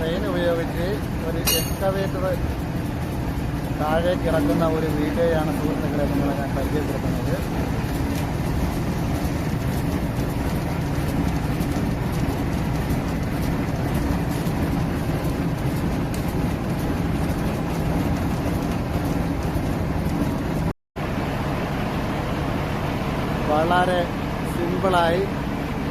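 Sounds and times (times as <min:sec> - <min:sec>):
diesel engine clattering: 0:00.0 - 0:25.9.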